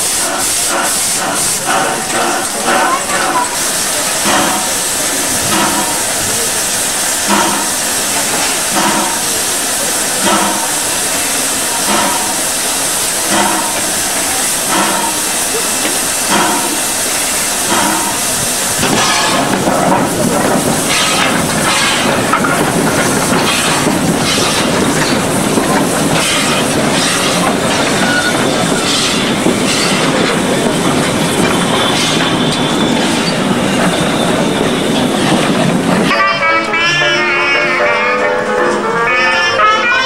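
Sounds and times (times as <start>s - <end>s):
steam locomotive hissing: 0.0s - 40.0s
train rumble: 0.0s - 40.0s
wheels clacking over rail joints: 0.2s - 36.8s.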